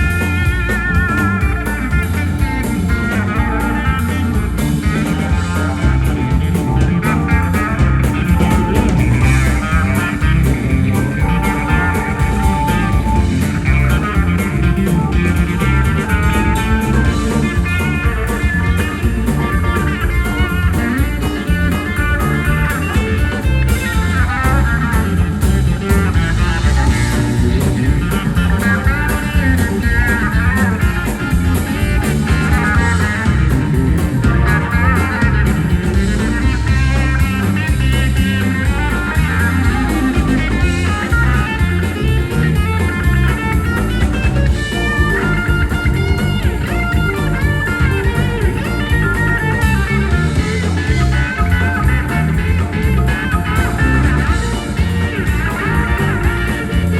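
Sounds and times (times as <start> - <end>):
electric guitar soloing: 0.0 - 56.9
live country-rock band: 0.0 - 56.9.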